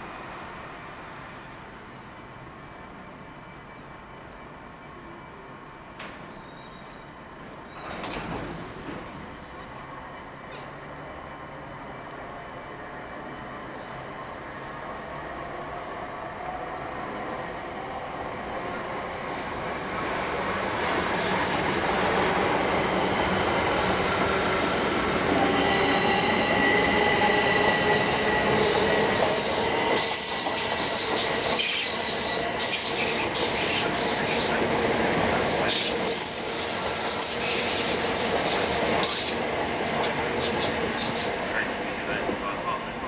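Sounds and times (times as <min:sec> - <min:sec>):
train passing with whine: 0:00.0 - 0:43.0.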